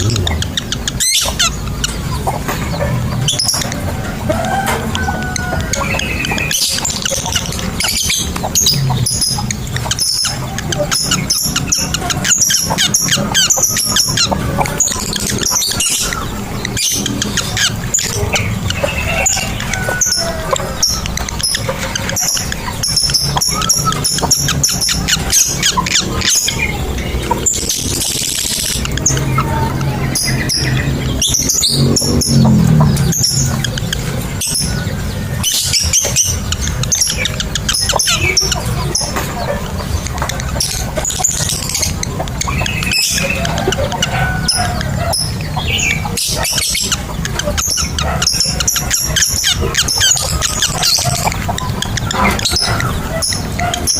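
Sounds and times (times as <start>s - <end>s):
bird chattering shrill chirps: 0.0s - 53.9s.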